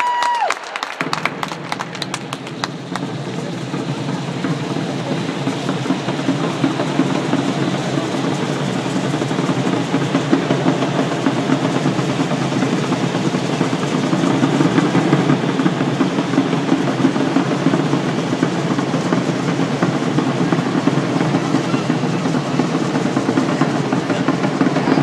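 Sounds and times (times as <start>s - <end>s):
drums: 0.0s - 25.0s.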